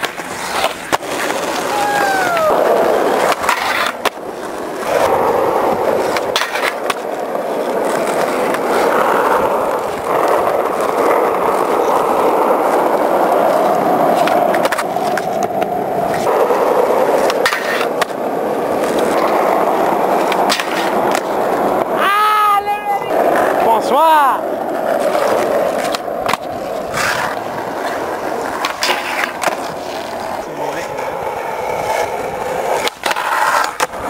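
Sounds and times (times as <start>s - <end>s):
skateboard popping and landing: 0.0s - 23.7s, 24.4s - 34.0s
skateboard wheels rolling on concrete: 0.0s - 34.0s.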